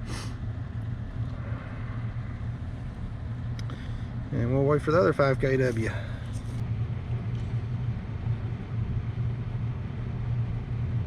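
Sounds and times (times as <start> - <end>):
air handler blower humming: 0.0 - 11.0.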